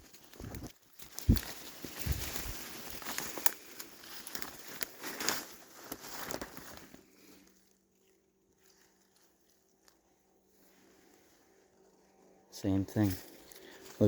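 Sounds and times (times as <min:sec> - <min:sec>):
footsteps crunching through brush: 0:00.0 - 0:12.4.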